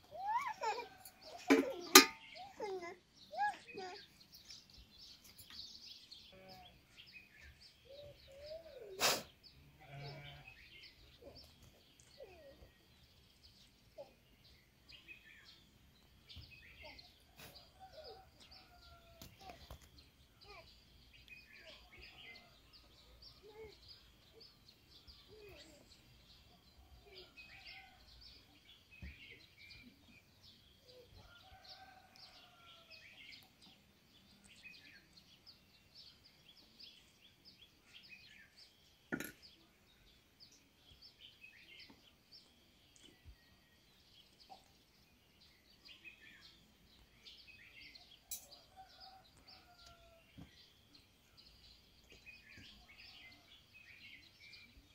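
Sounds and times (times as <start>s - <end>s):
faint outdoor ambience: 0.0s - 54.9s
small birds chirping: 0.0s - 54.9s.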